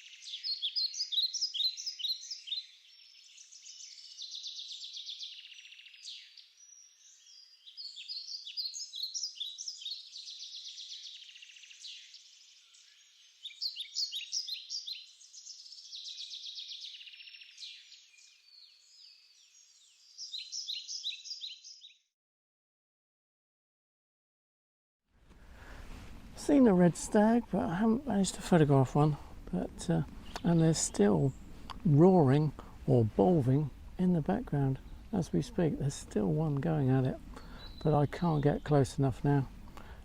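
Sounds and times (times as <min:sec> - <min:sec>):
songbird singing trills: 0:00.0 - 0:22.0, 0:26.5 - 0:39.9.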